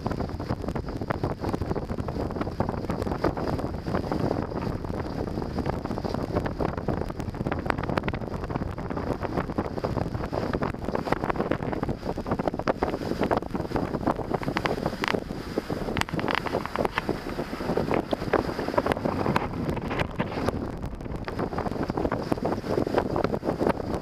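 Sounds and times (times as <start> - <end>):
road and engine noise: 0.0 - 24.0
wind buffeting microphone: 0.0 - 24.0.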